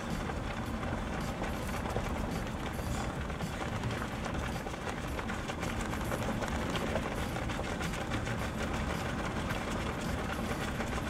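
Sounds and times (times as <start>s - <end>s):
faint footfalls of runners: 0.0s - 11.0s
vehicle rolling on dirt road: 0.0s - 11.0s.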